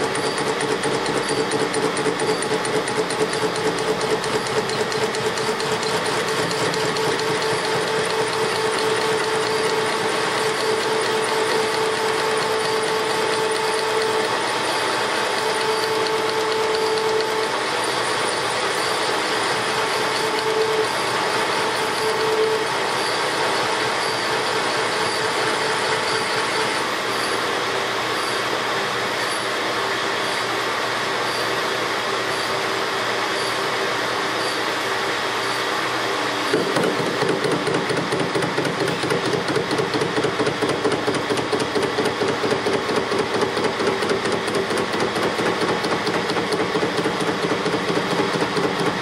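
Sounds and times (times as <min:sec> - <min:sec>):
metal lathe cutting: 0:00.0 - 0:49.0.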